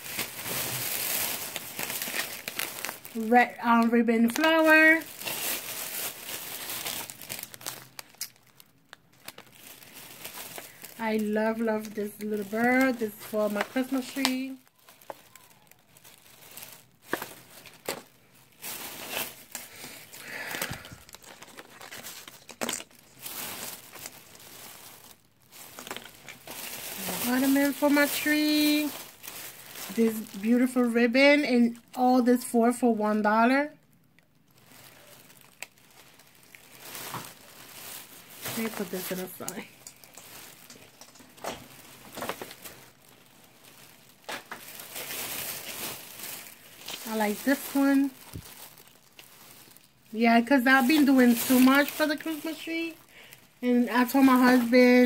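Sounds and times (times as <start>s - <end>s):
plastic bag crinkling: 0.0s - 55.0s.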